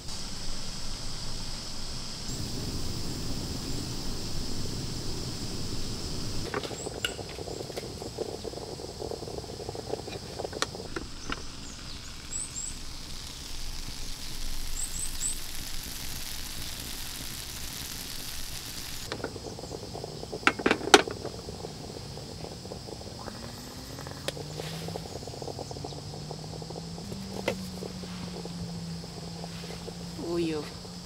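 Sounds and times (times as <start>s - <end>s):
waffle iron hissing on burner: 0.0s - 31.0s.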